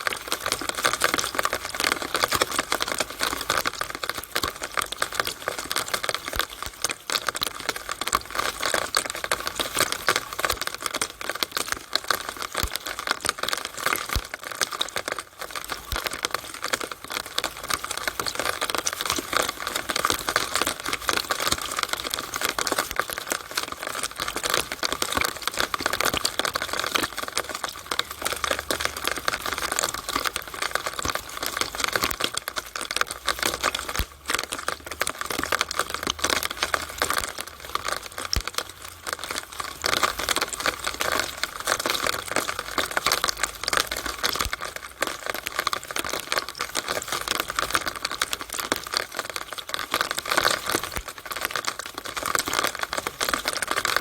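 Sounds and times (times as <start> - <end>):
rainwater dripping in downspout: 0.0 - 54.0.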